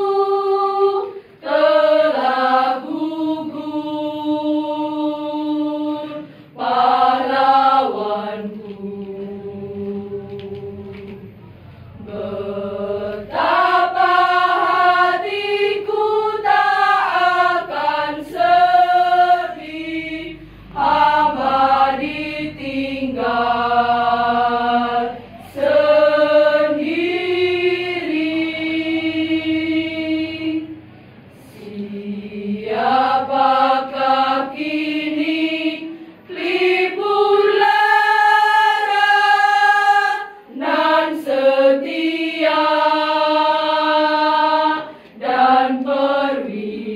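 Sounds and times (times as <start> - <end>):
women's choir singing: 0.0 - 46.9.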